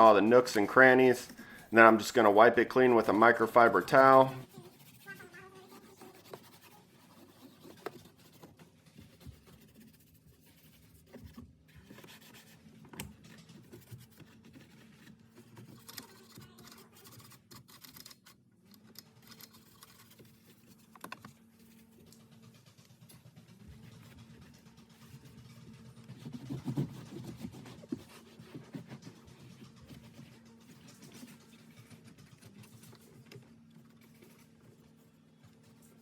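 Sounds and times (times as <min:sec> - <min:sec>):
scratchy rubbing on plastic: 0:00.0 - 0:18.3, 0:19.2 - 0:36.0.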